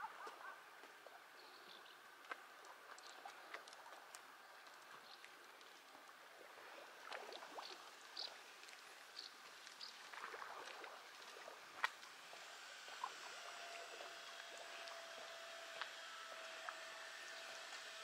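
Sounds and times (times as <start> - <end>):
water lapping on rocky shore: 2.1 - 18.0.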